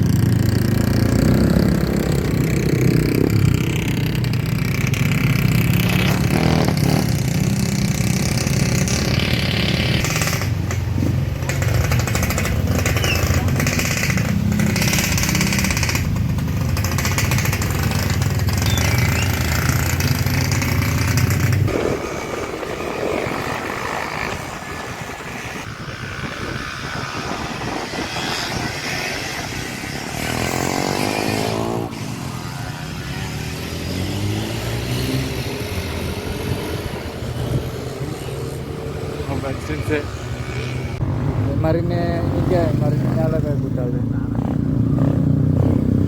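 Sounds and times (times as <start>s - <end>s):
motorcycle engine droning: 0.0s - 46.0s
quieter engine: 0.0s - 46.0s
road noise: 0.0s - 46.0s.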